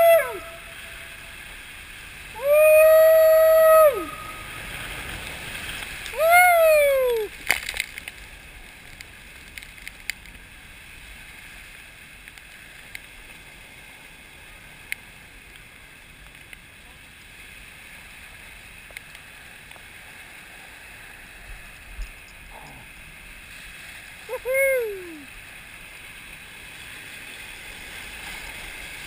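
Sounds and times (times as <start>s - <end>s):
water rushing down a slide: 0.0s - 29.0s.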